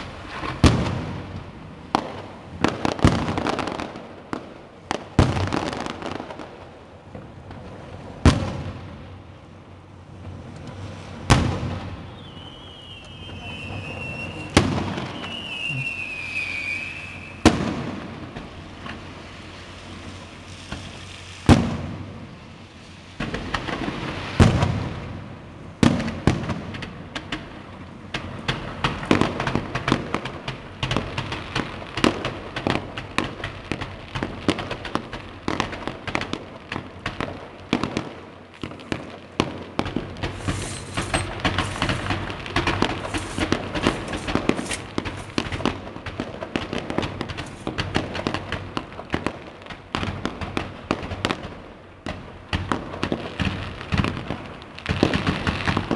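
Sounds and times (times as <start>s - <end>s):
firework bangs with echo: 0.0s - 9.2s, 11.2s - 19.2s, 19.9s - 22.4s, 23.1s - 55.9s
firework barrage of bangs and crackles: 0.0s - 55.9s.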